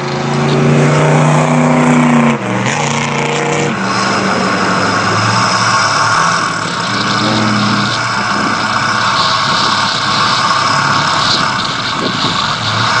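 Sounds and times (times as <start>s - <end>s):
constant rushing noise: 0.0s - 13.0s
engine running: 0.0s - 13.0s.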